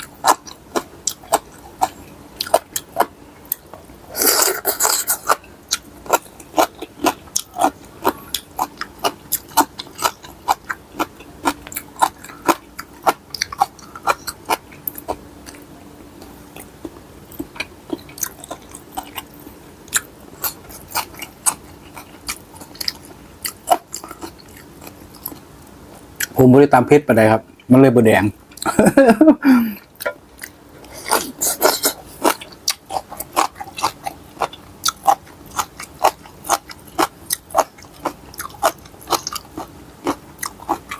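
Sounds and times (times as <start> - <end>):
person chewing and crunching food: 0.0 - 26.4, 28.4 - 40.9.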